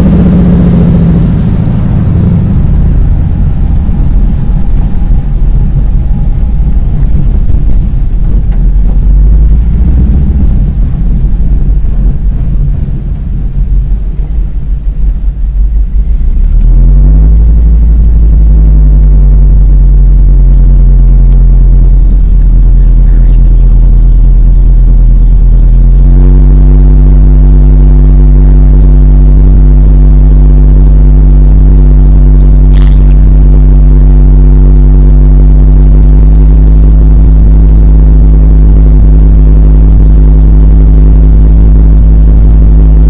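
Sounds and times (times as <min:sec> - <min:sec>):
floatplane engine and propeller: 0:00.0 - 0:43.0.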